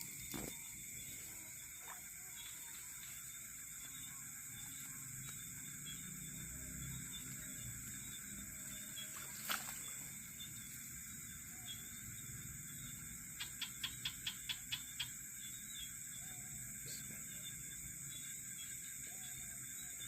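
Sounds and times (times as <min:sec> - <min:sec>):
crickets and insects shrilling: 0:00.0 - 0:20.0.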